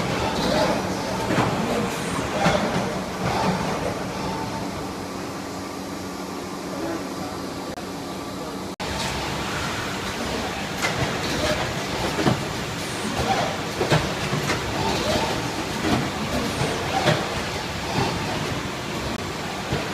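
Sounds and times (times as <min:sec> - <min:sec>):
machine and conveyor noise: 0:00.0 - 0:19.9.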